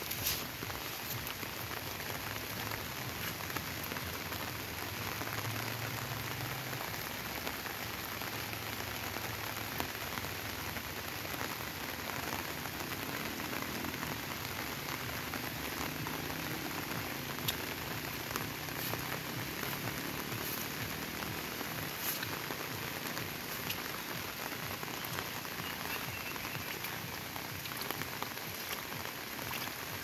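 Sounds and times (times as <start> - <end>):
rain falling on foliage: 0.0 - 30.0.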